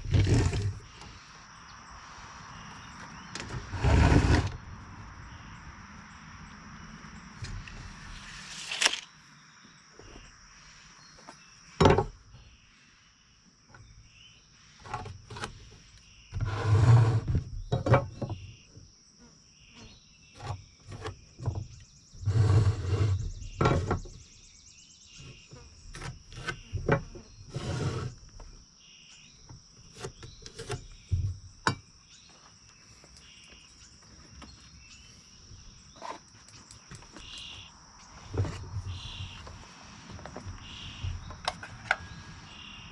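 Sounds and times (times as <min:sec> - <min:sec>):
insects buzzing: 0:00.1 - 0:42.9.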